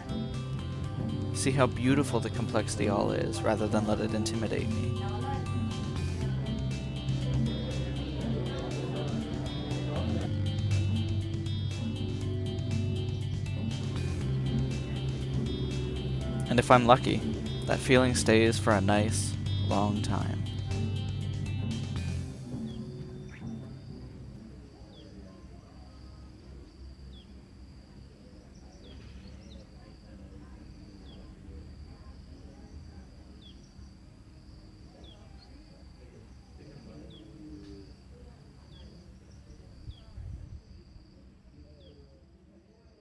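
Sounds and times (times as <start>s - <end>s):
faint voices murmuring: 0.0s - 43.0s
insects chirring: 0.0s - 43.0s.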